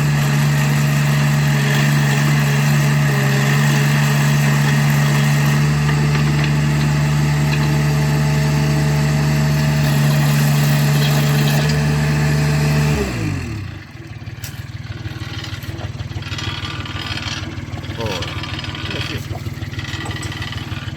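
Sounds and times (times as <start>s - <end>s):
loader engine revving and idling: 0.0s - 20.9s.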